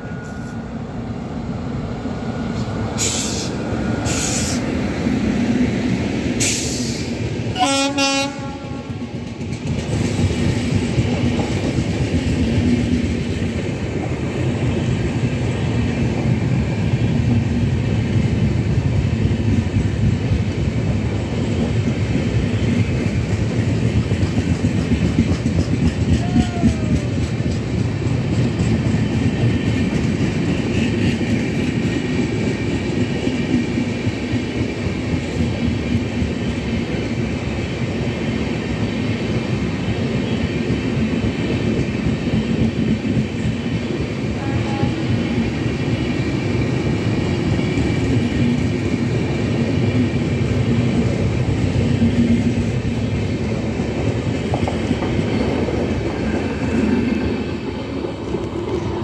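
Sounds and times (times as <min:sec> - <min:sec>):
train coaches rumbling past: 0:00.0 - 0:59.0.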